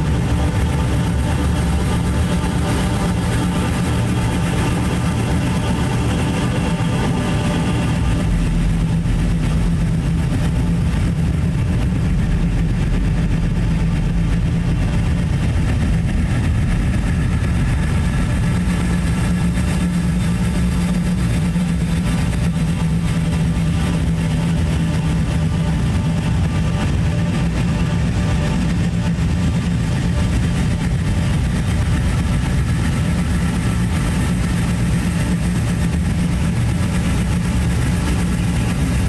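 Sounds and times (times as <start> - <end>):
dark ambient drone music: 0.0 - 39.0.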